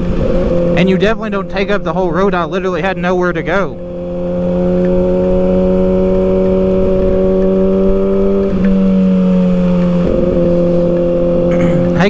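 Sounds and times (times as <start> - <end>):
low wind rumble: 0.0 - 12.0
motorcycle engine at high revs: 0.0 - 12.0.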